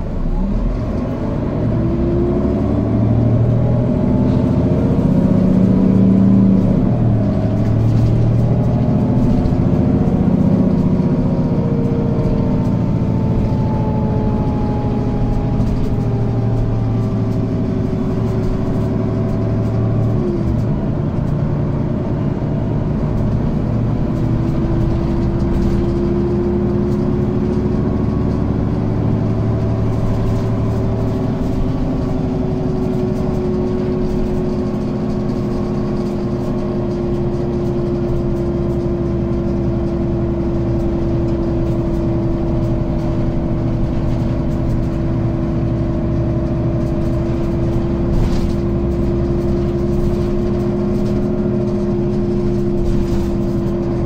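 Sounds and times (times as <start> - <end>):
bus engine rumble: 0.0 - 54.0
drivetrain whine: 0.0 - 54.0.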